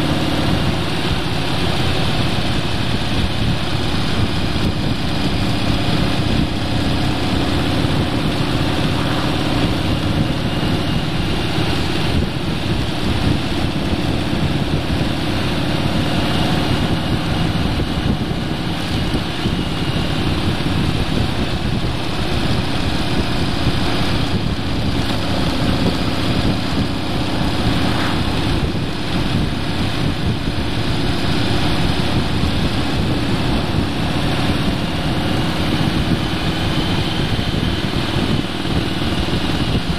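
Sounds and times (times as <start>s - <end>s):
engine humming: 0.0s - 39.9s
wind rushing over microphone: 0.0s - 39.9s.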